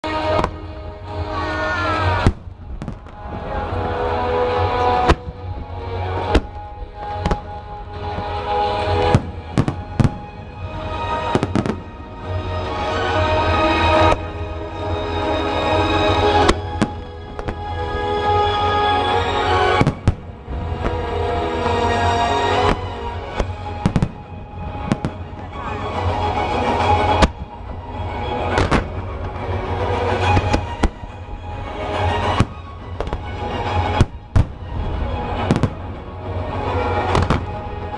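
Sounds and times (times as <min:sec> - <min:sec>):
steady music: 0:00.0 - 0:37.9
fireworks bangs: 0:00.1 - 0:00.8, 0:01.4 - 0:12.0, 0:15.8 - 0:18.1, 0:19.3 - 0:37.9.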